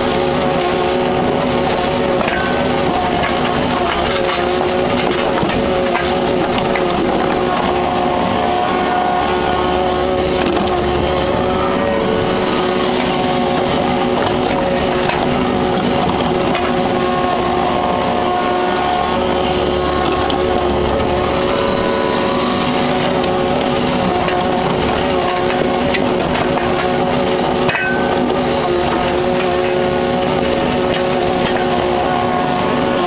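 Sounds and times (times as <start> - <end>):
excavator engine and hydraulics: 0.0 - 33.0.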